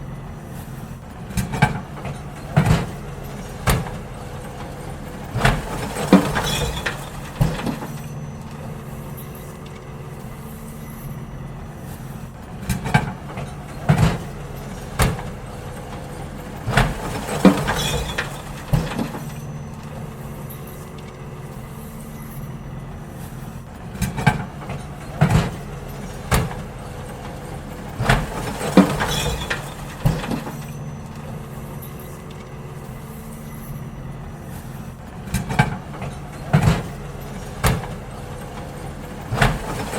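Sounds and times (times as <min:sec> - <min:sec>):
bins clattering and banging: 0:00.0 - 0:39.9
garbage truck engine running: 0:00.0 - 0:39.9.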